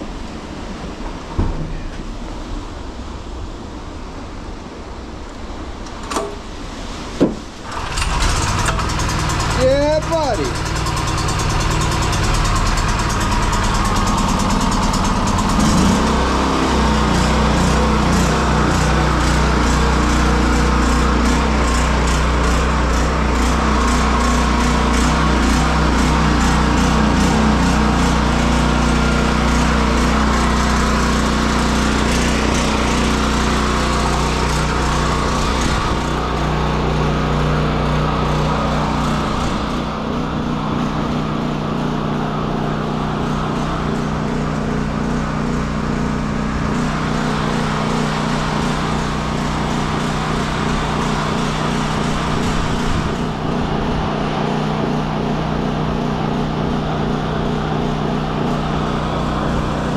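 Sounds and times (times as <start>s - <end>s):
generator engine running: 7.4s - 59.9s.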